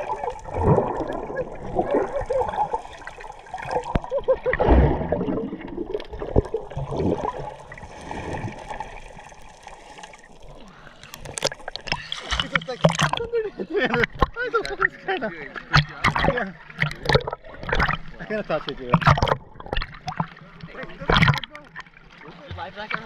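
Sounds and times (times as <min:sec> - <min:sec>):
rush of water: 0:00.0 - 0:23.0
underwater bubbles gurgling: 0:00.0 - 0:23.0
water sloshing: 0:00.0 - 0:23.0.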